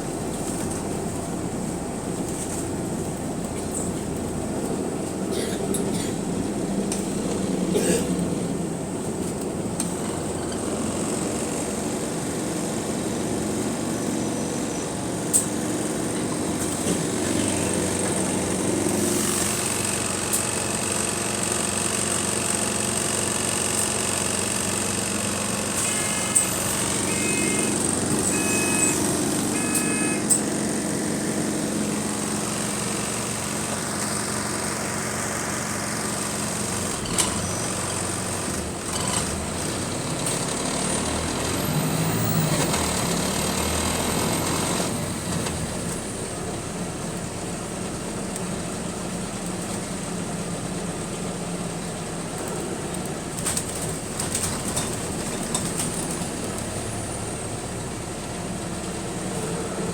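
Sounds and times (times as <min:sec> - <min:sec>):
bus engine hum: 0:00.0 - 0:59.9.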